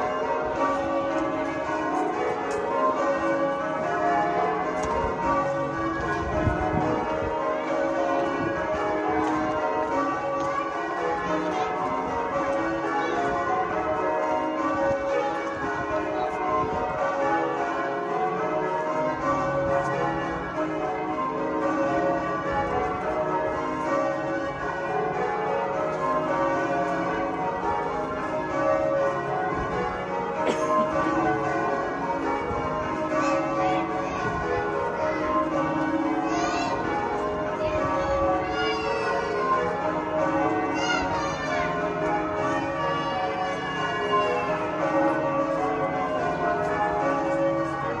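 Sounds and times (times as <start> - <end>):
church bells change-ringing: 0.0 - 48.0.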